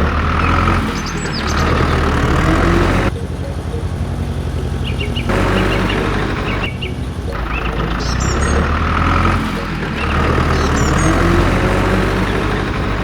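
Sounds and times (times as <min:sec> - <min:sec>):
birds chirping: 0:00.0 - 0:13.0
low engine-like rumble: 0:00.0 - 0:13.0.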